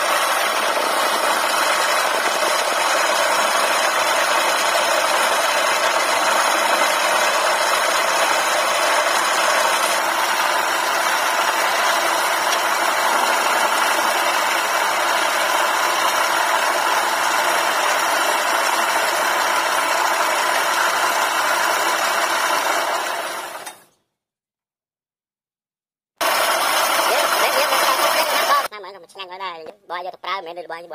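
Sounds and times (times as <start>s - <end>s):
chisel cutting spinning wood: 0.0s - 23.7s, 26.2s - 28.7s
wood lathe running: 0.0s - 23.7s, 26.2s - 28.7s.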